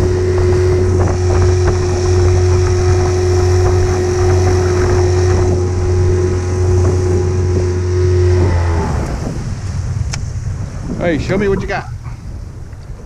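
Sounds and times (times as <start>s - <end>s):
small outboard motor: 0.0s - 10.8s
water rushing along hull: 0.0s - 13.0s.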